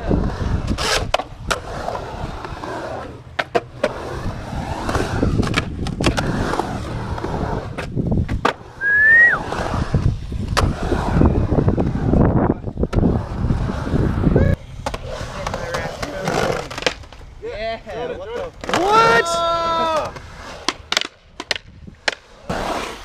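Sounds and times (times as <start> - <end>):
skateboard wheels rolling on concrete: 0.0 - 23.0.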